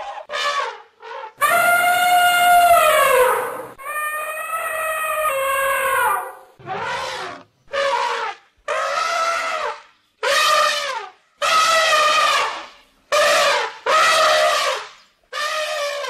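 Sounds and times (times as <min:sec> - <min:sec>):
elephant trumpeting: 0:00.0 - 0:16.0.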